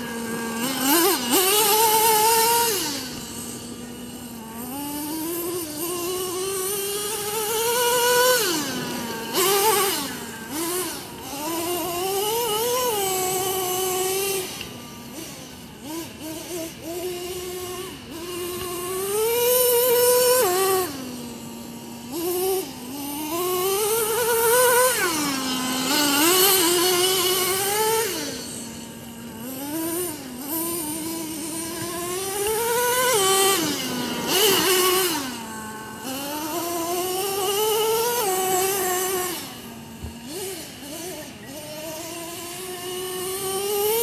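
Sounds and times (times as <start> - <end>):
small engine revving high-pitched: 0.0 - 44.0.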